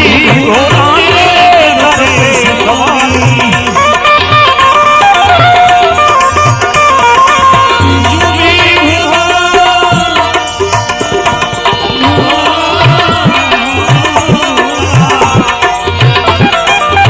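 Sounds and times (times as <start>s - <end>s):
sustained instrumental melody: 0.0s - 17.0s
tabla playing a steady rhythm: 0.0s - 17.0s.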